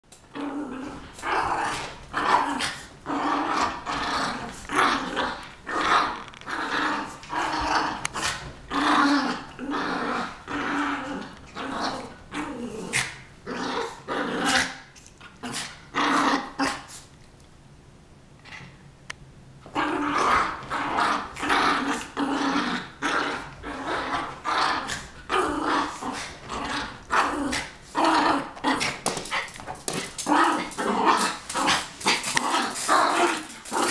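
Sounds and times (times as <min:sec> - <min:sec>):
small dogs growling: 0:00.3 - 0:17.0, 0:19.7 - 0:33.9.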